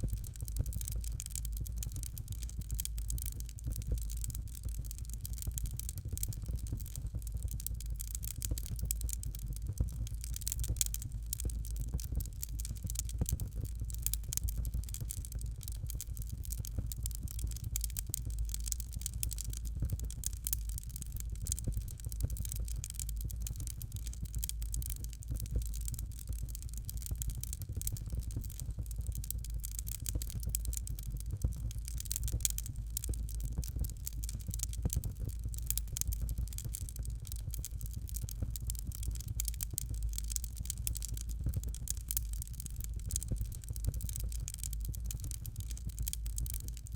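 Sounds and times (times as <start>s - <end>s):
fire crackling in a fireplace: 0.0s - 46.9s.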